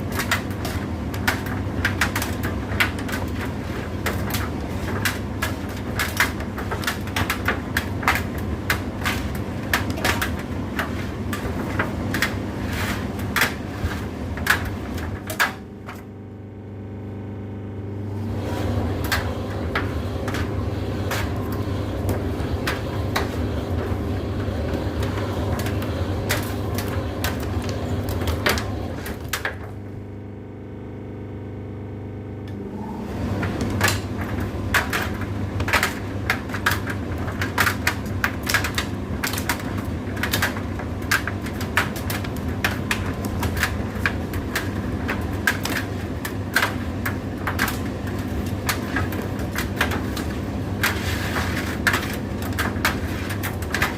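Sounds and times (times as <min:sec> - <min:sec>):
tumble dryer motor hum: 0:00.0 - 0:53.9.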